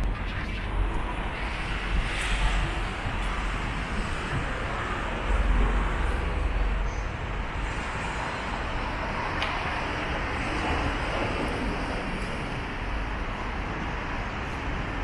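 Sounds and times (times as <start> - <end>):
city road traffic: 0.0 - 15.0.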